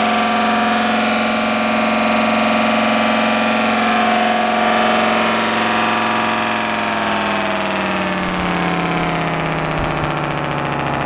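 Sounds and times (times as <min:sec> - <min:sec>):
air raid siren wailing: 0:00.0 - 0:11.0.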